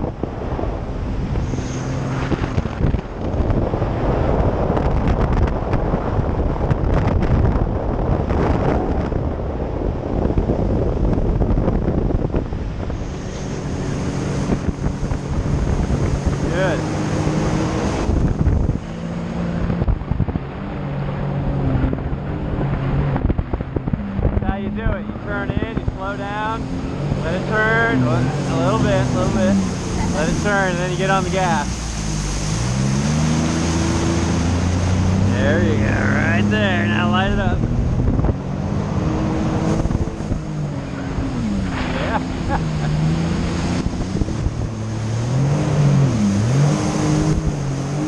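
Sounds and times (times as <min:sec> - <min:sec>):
hull running across water: 0:00.0 - 0:48.0
watercraft engine rushing: 0:00.0 - 0:48.0
wind buffeting microphone: 0:00.0 - 0:48.0.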